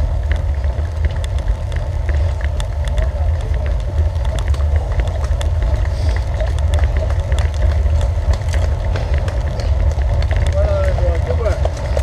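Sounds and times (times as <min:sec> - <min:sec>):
road rumble: 0:00.0 - 0:12.0
small clicks and rattles: 0:00.0 - 0:12.0.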